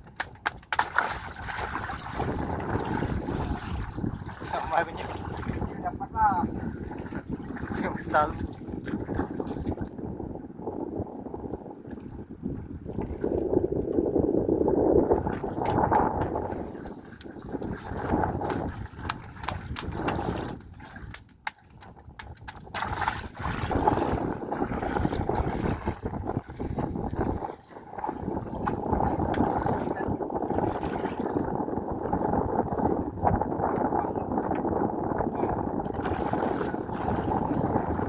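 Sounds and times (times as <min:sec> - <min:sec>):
water sloshing and splashing: 0:00.0 - 0:10.2, 0:11.6 - 0:38.0
wind buffeting microphone: 0:00.0 - 0:38.0.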